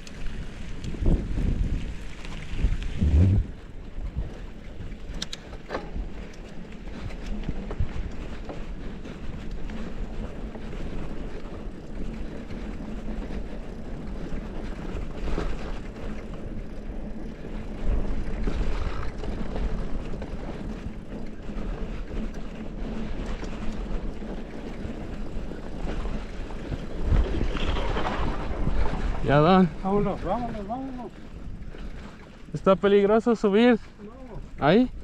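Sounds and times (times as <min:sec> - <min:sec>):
bike tyre noise on dirt: 0:00.0 - 0:35.0
wind buffeting microphone: 0:00.0 - 0:35.0.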